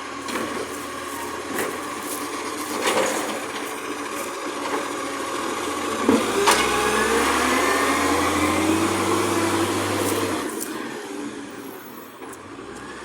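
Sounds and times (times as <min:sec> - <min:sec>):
hydraulic whine: 0:00.0 - 0:13.0
truck engine running: 0:00.0 - 0:13.0.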